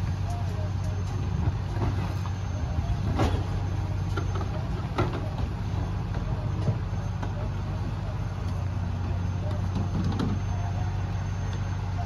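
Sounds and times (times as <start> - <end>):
garbage truck engine idling: 0.0 - 12.0.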